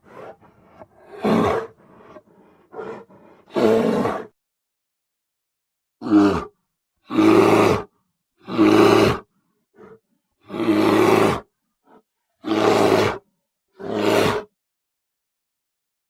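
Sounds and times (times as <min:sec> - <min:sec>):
bear roaring: 0:00.0 - 0:04.4, 0:06.0 - 0:14.5.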